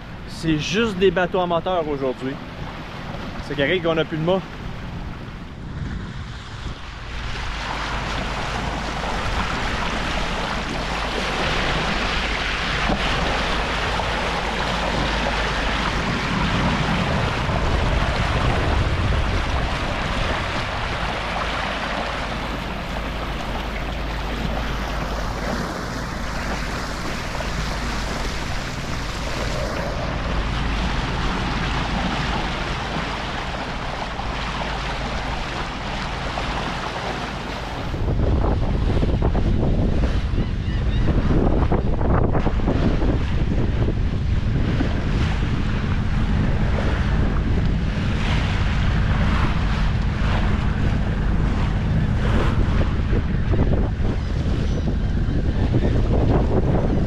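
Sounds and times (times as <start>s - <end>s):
bow wave splashing along hull: 0.0s - 57.0s
low engine hum: 0.0s - 57.0s
wind buffeting microphone: 0.0s - 57.0s.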